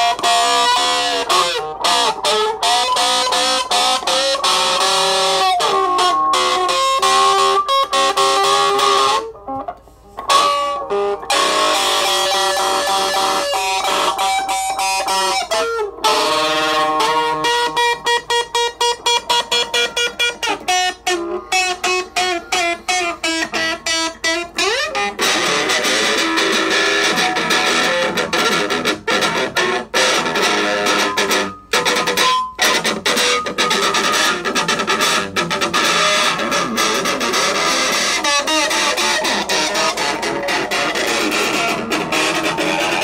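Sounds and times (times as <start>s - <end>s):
distorted guitar strumming: 0.0s - 43.0s
electric guitar picked notes: 0.0s - 43.0s.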